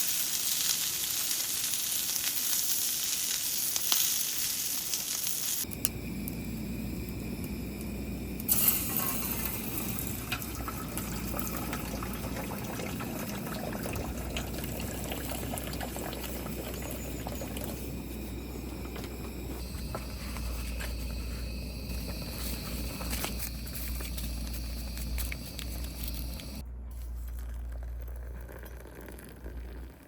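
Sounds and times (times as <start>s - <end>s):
liquid pouring and bubbling: 5.7s - 30.0s.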